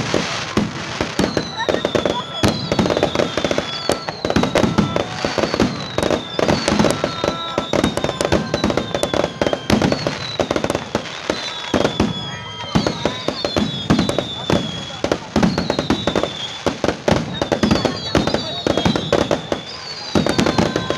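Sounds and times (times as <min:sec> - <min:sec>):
fireworks bangs and crackling: 0:00.0 - 0:20.9.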